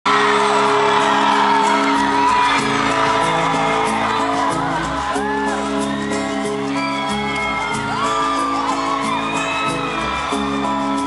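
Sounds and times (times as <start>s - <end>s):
crowd whooping: 0.1s - 11.0s
live band playing: 0.1s - 11.0s.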